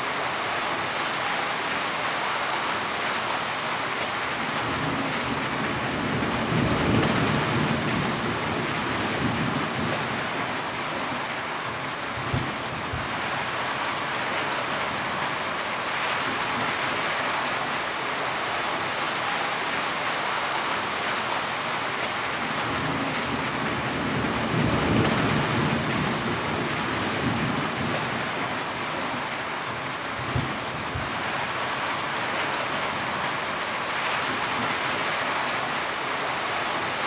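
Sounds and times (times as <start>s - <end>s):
heavy rain falling: 0.0s - 37.0s.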